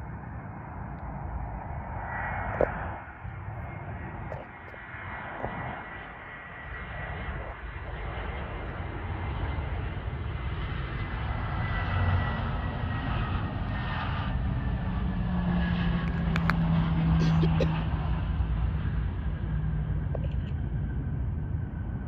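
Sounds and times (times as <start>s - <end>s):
jet engines whining on runway: 0.0s - 22.0s.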